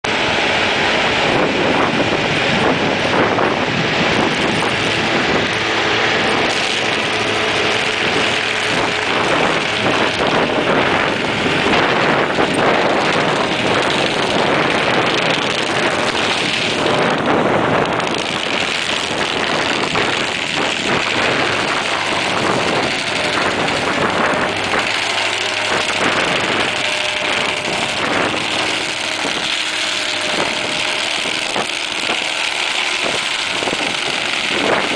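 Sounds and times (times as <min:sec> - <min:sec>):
engine running hard: 0:00.0 - 0:34.9
stump grinder grinding: 0:00.0 - 0:34.9.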